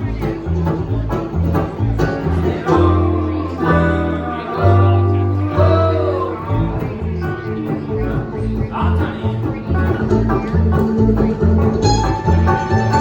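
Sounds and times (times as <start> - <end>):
acoustic guitar picking: 0.0 - 13.0
banjo picking: 0.0 - 13.0
bass line: 0.0 - 13.0
bluegrass band playing: 0.0 - 13.0.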